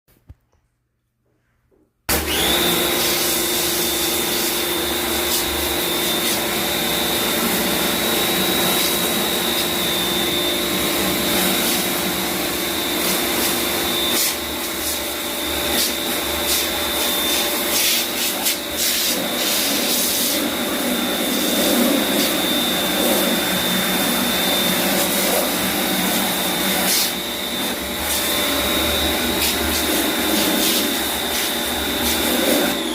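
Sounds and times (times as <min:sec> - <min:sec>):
cleaning machine motor whine: 0:02.1 - 0:32.9.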